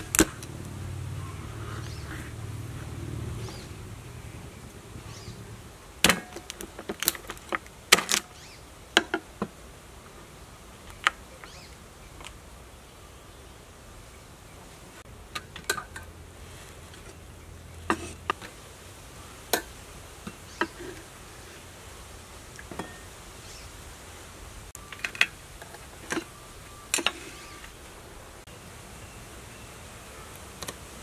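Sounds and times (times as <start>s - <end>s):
steady low hiss: 0.0s - 31.0s.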